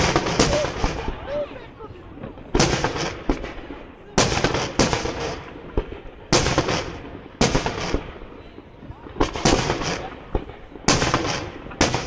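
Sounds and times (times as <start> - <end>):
firework shells bursting: 0.0 - 1.3, 2.2 - 8.2, 9.2 - 12.0.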